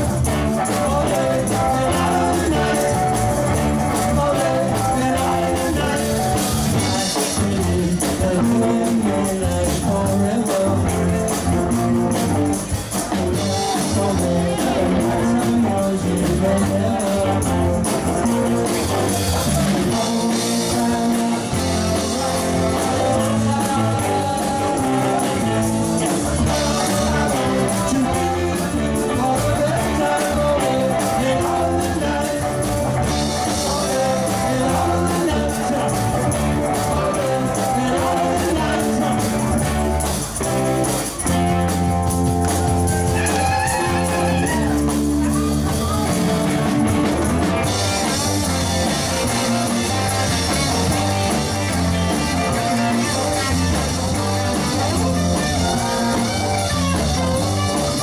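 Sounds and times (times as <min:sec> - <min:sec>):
live rock and roll band: 0:00.0 - 0:58.0.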